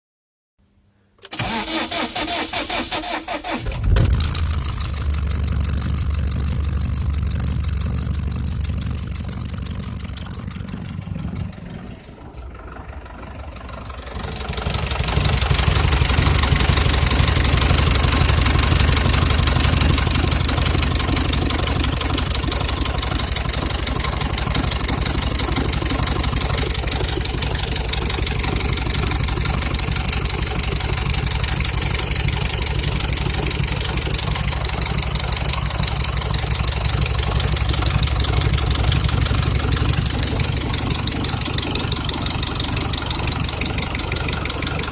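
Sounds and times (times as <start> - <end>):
diesel engine idling with knock: 3.7 - 44.9.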